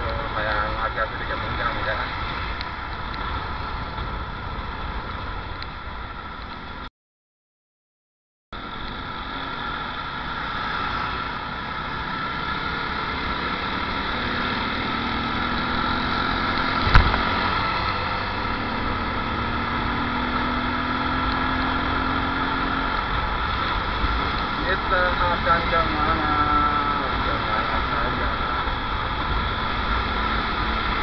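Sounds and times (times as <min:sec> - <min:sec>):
motorcycle engine and road noise: 0:00.0 - 0:06.9, 0:08.6 - 0:31.0.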